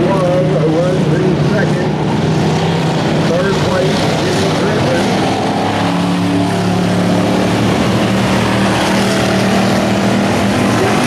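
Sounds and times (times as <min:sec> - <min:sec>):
stock car engines droning: 0:00.0 - 0:11.0.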